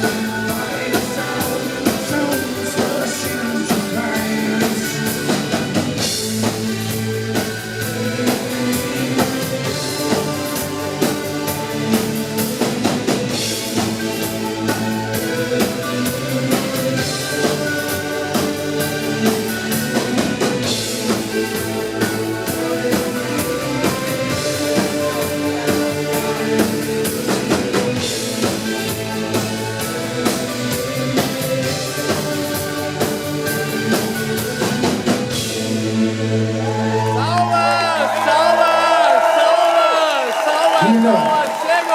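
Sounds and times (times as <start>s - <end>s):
driving drum beat: 0.0s - 41.9s
electronic rock band playing: 0.0s - 41.9s
loud held chords: 0.0s - 41.9s.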